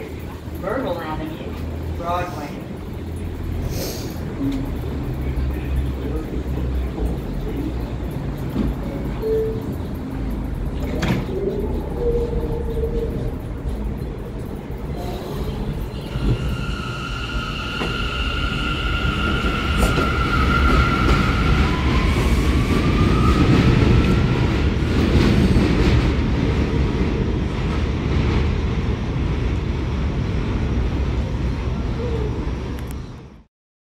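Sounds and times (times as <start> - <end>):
wheels rumbling and rattling on rails: 0.0 - 33.5.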